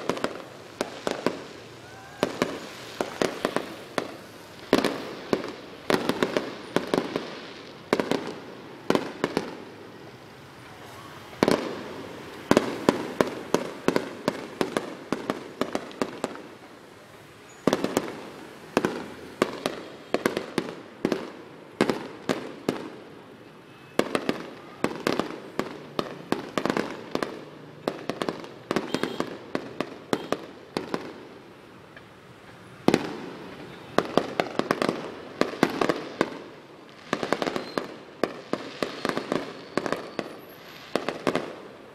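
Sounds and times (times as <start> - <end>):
fireworks bursting: 0.0 - 41.9
fireworks crackling: 0.0 - 41.9.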